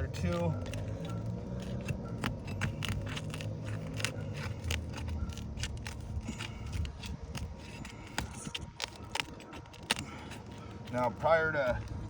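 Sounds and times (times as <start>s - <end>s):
shingle seal crackling and snapping: 0.0s - 12.0s.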